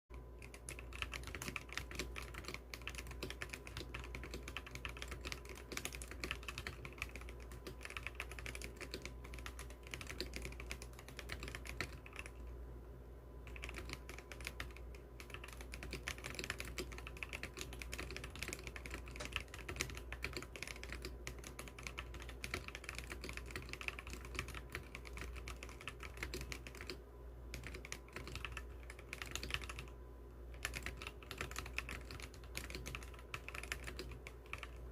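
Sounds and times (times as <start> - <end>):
mechanical keyboard typing: 0.4 - 12.5, 13.5 - 34.9.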